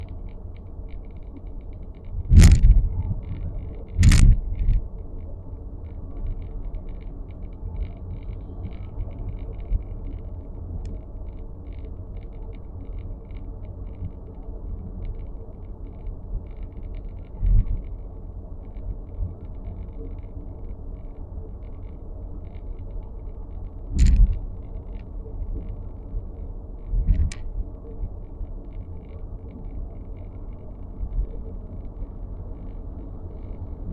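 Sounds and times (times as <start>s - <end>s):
dashboard ticking and creaking: 0.0s - 33.9s
road rumble inside car: 0.0s - 33.9s.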